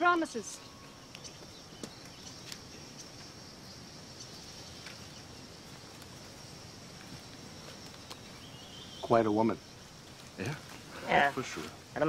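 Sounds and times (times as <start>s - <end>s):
insects droning: 0.0s - 12.0s
low background hiss: 0.0s - 12.0s.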